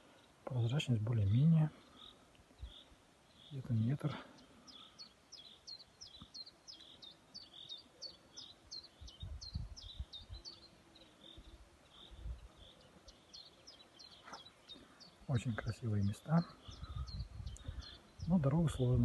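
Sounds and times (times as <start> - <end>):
faint outdoor background: 0.0 - 19.0
small bird calling: 0.0 - 19.0.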